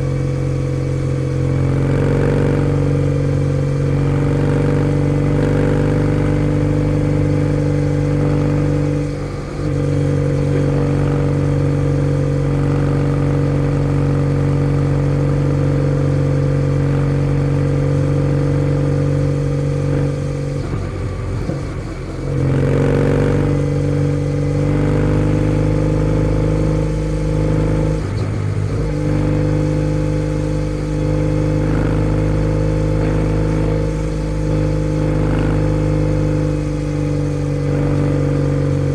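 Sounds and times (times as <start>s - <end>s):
motorcycle engine under throttle: 0.0s - 38.9s.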